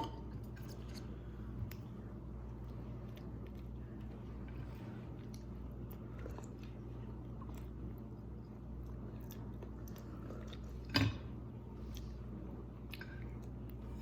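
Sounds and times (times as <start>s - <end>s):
steady low hum: 0.0s - 14.0s
faint chewing: 0.4s - 10.9s, 11.5s - 14.0s.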